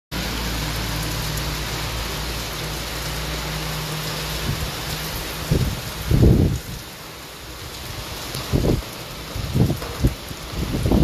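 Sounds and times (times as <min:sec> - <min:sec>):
heavy rain on roofs: 0:00.1 - 0:11.0.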